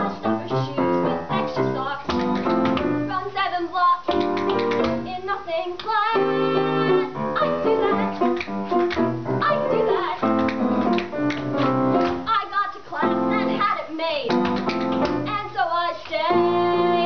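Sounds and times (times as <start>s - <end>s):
woman singing with vibrato: 0.0s - 8.4s, 9.4s - 10.4s, 12.0s - 14.4s, 15.0s - 17.0s
grand piano: 0.0s - 17.0s.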